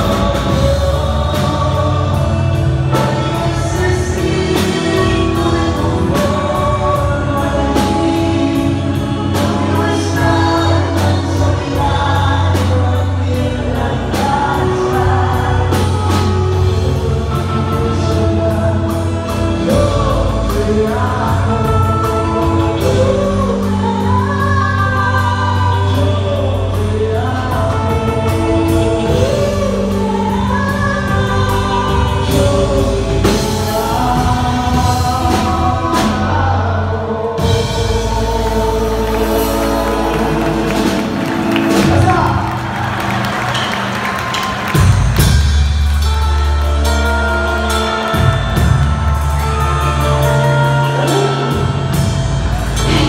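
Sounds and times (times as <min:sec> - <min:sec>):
voices singing a melody: 0:00.0 - 0:45.2
bass: 0:00.0 - 0:53.0.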